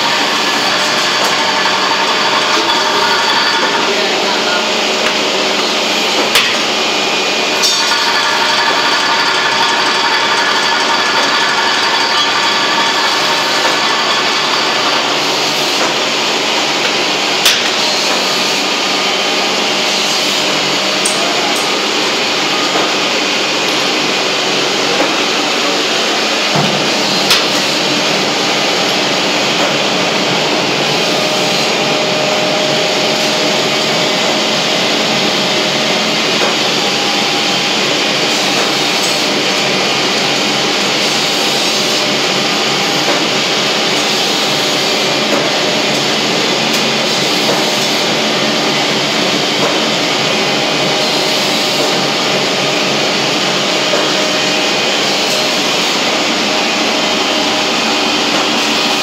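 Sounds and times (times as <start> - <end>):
filling machine whirring: 0.0 - 59.0.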